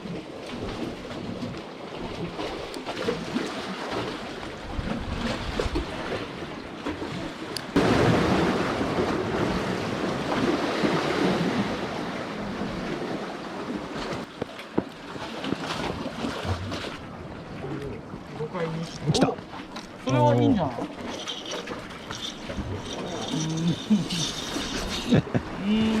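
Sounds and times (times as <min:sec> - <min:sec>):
waves washing ashore: 0:00.0 - 0:26.0.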